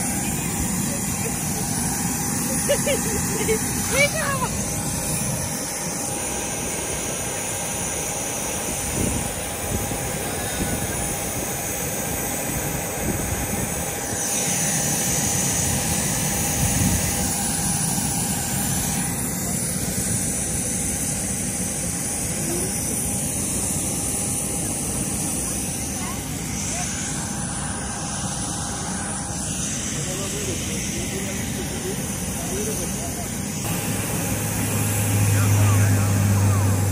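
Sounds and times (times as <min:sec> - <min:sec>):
jet engines rumbling: 0:00.0 - 0:36.9
thin high engine whine: 0:00.0 - 0:36.9.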